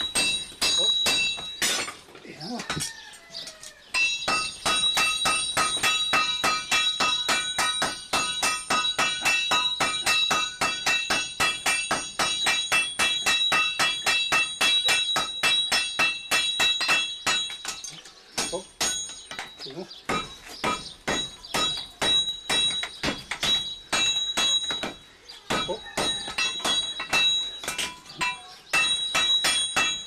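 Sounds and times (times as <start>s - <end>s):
hammers striking iron on anvil: 0.0s - 2.0s, 3.9s - 30.0s.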